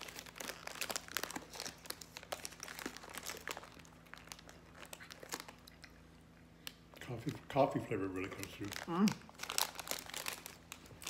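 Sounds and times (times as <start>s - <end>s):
snack wrapper crinkling: 0.0s - 11.0s.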